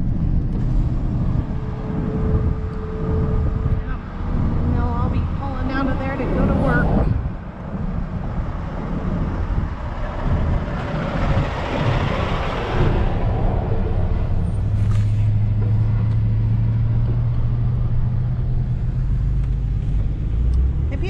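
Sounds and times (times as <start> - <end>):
truck cab engine hum: 0.0 - 21.0.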